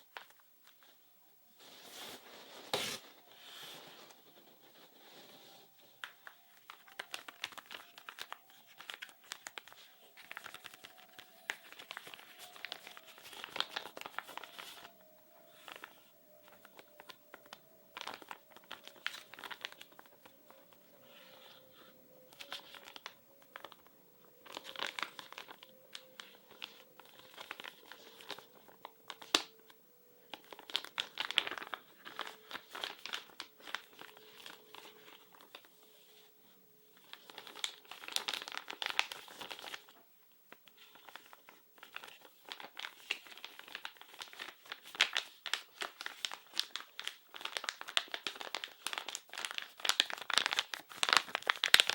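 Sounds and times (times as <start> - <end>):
material crinkling and crumpling: 0.0 - 51.9.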